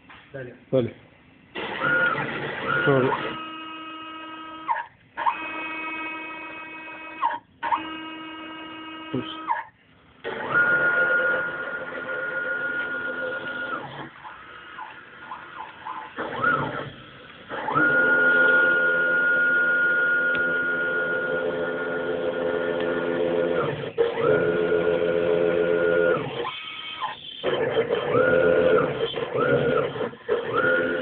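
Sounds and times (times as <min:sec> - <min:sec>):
stepper motors whining: 0:01.6 - 0:09.6, 0:10.2 - 0:31.0.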